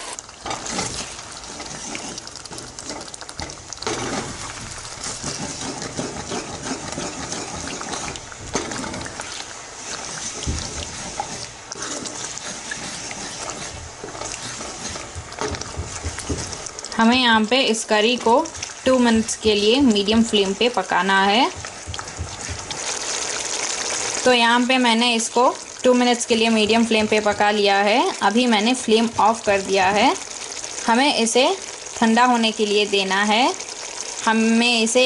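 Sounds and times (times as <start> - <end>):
sizzling in hot oil: 0.0 - 35.0.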